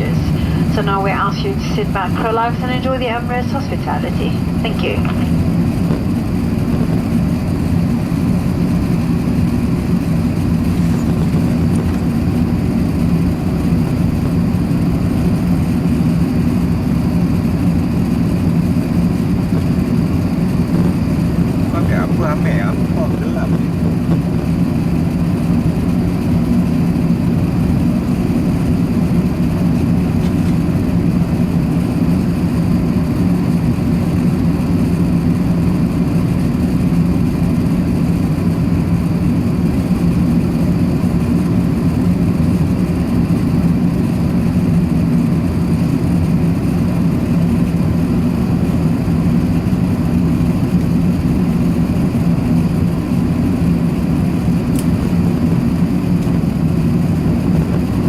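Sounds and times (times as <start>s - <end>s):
aircraft cabin drone: 0.0s - 58.0s.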